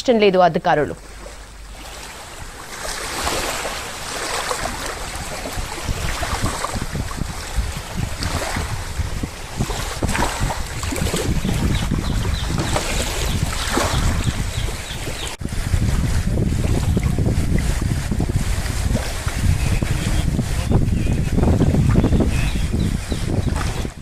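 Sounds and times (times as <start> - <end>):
floodwater rushing: 0.6 - 24.0
wind buffeting microphone: 0.6 - 24.0.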